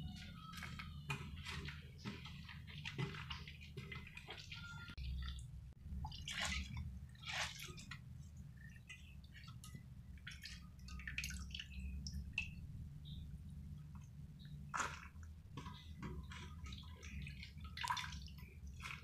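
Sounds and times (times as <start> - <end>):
low steady hum: 0.0 - 19.0
water splashing and dripping: 0.5 - 13.2, 13.8 - 19.0.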